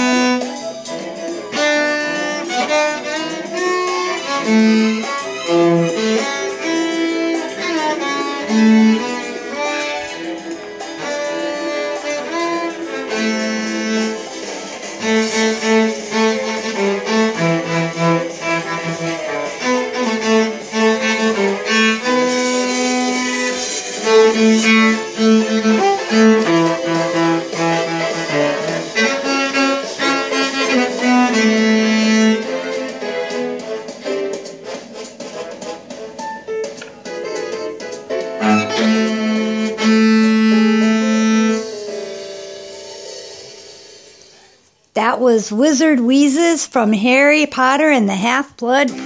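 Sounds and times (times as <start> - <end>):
violin and cello music: 0.0 - 36.0, 36.8 - 42.1.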